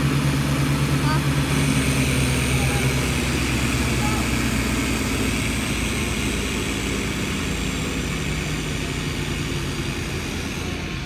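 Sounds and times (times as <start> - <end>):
large engine running: 0.0 - 11.0.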